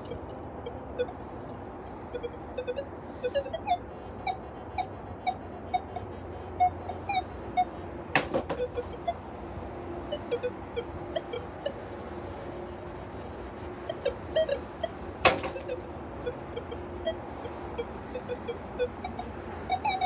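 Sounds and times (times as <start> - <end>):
metal detector beeps: 0.0 - 9.2, 10.1 - 11.8, 13.9 - 20.0.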